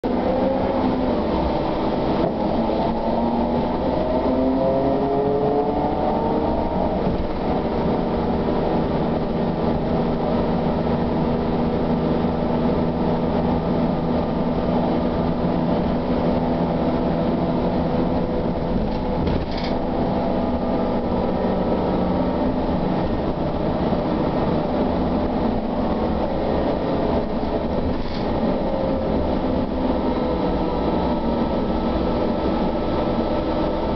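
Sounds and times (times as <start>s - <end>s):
bus ride rumble: 0.0s - 33.9s.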